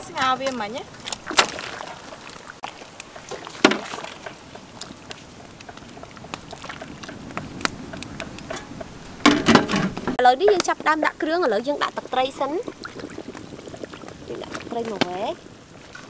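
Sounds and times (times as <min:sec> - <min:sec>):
soup bubbling in a pot: 0:00.0 - 0:16.0.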